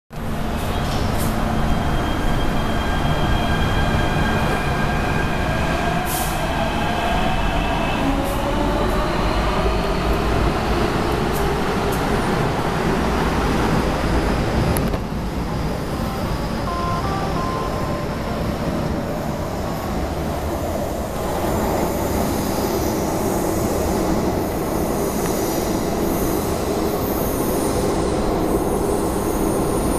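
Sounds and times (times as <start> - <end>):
train cars rumbling on track: 0.2 - 16.6, 17.8 - 29.9.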